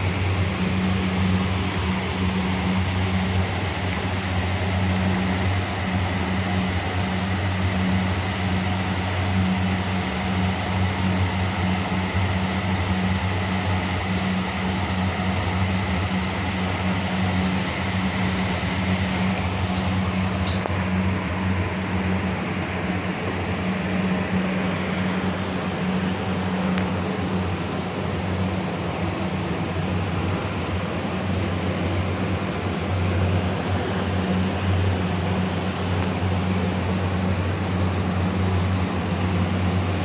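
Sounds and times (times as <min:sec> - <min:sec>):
electric fan hum: 0:00.0 - 0:40.0.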